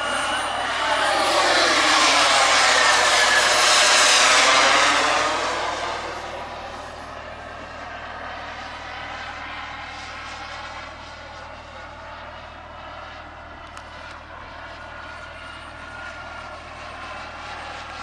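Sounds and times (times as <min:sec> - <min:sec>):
model jet turbine whine flying past: 0:00.0 - 0:18.0.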